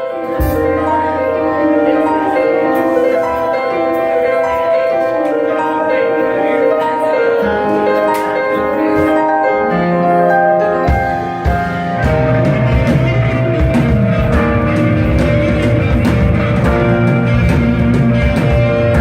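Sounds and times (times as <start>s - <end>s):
keyboard-like instrumental music: 0.0s - 19.0s.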